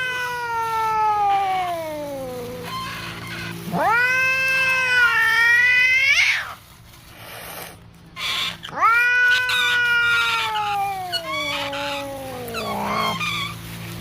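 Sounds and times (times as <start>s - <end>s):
cat yowling: 0.0s - 6.6s, 8.2s - 13.7s.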